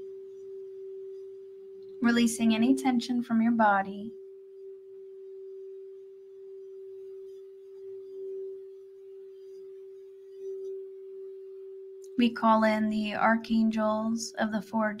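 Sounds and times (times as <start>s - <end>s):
singing bowl ringing: 0.0s - 15.0s.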